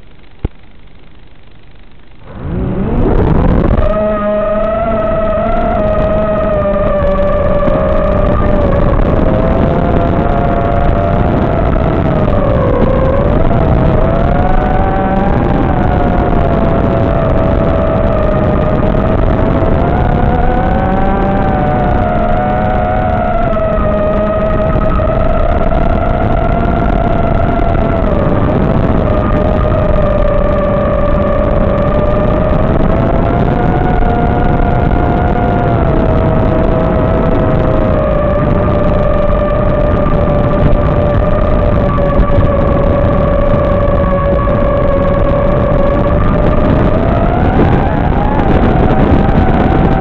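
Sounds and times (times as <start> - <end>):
drone motors whining: 2.2 - 50.0
wind rush: 2.2 - 50.0.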